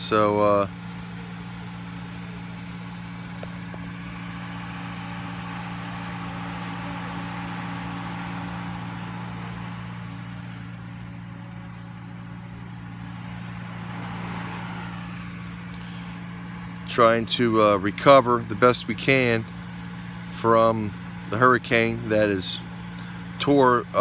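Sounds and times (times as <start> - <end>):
engine running with hiss: 0.0 - 24.0.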